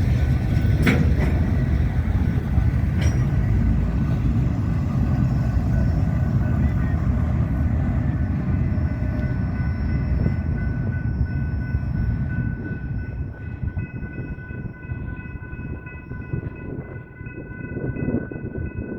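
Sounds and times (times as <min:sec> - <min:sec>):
train cars rumbling past: 0:00.0 - 0:18.9.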